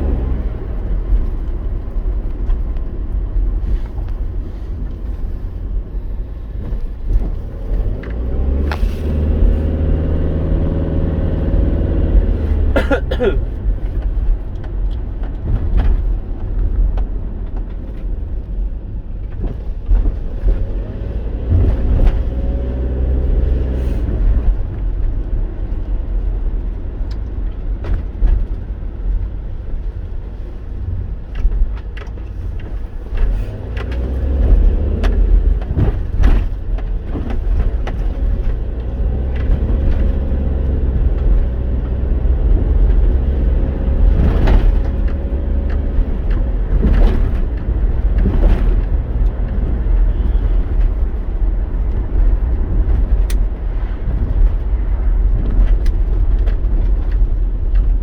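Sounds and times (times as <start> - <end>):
road and engine rumble: 0.0 - 58.0.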